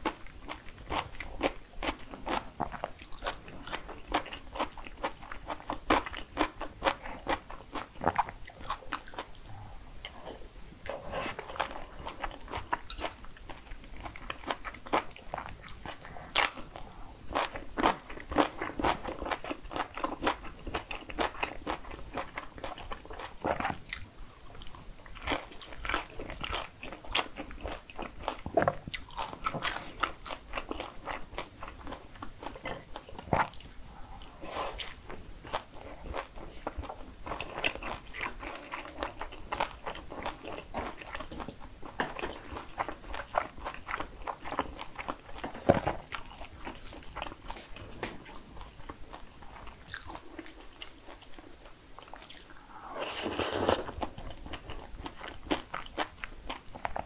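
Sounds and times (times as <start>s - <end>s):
chewing with crisp crunches: 0.0s - 57.0s.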